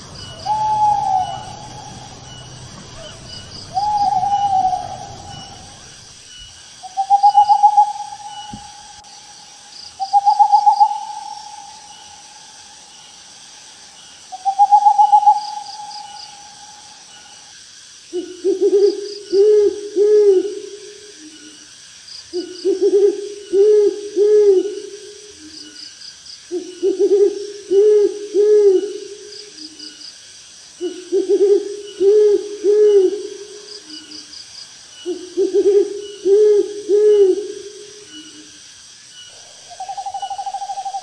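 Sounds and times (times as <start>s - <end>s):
owl hooting: 0.0s - 6.2s, 6.8s - 13.0s, 14.3s - 17.5s, 18.1s - 21.6s, 22.3s - 25.8s, 26.5s - 29.7s, 30.8s - 34.3s, 35.0s - 38.5s, 39.2s - 41.0s.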